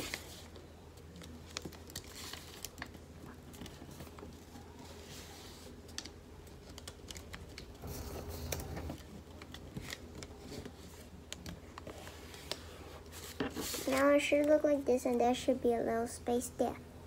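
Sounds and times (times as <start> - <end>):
paper folding and rustling: 0.0 - 15.5.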